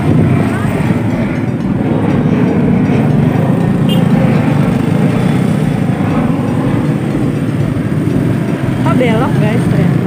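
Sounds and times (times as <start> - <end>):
low engine rumble: 0.0 - 10.0.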